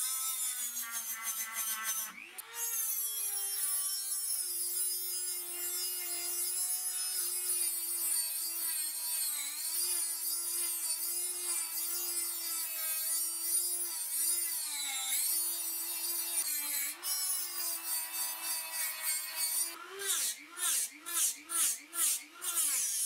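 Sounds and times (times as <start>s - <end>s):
rotary tool grinding metal: 0.0s - 23.0s.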